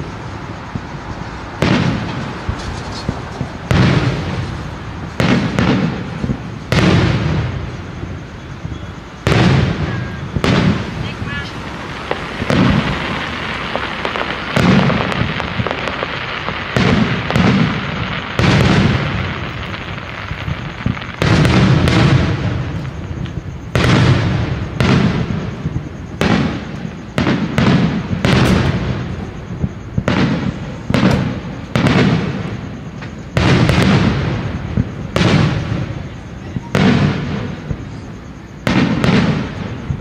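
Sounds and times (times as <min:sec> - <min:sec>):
fireworks crackling: 0:00.0 - 0:40.0
fireworks shells booming: 0:00.0 - 0:40.0.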